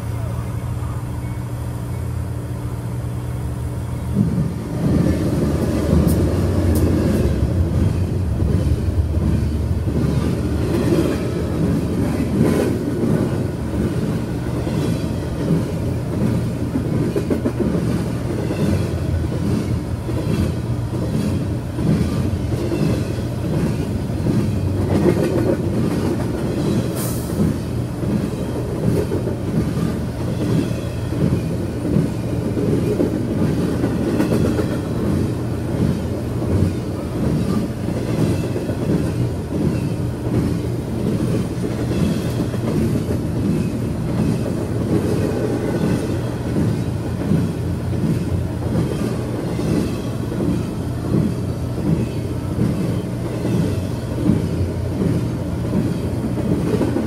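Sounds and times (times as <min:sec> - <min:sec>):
diesel locomotive engine: 0:00.0 - 0:57.0
railcar wheel clatter: 0:00.0 - 0:57.0.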